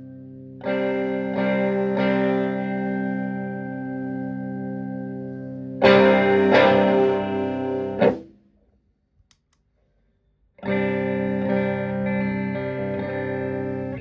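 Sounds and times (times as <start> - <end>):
electric guitar chords ringing: 0.0 - 8.3, 10.6 - 14.0.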